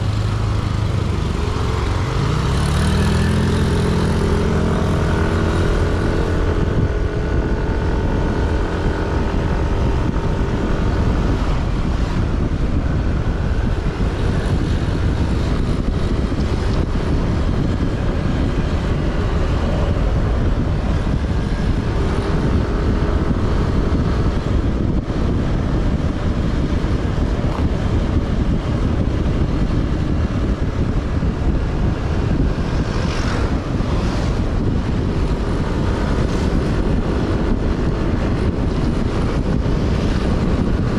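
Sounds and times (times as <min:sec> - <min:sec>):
engine hum: 0:00.0 - 0:40.9
low rumble of engine and road: 0:00.0 - 0:40.9
wind noise on microphone: 0:00.0 - 0:40.9.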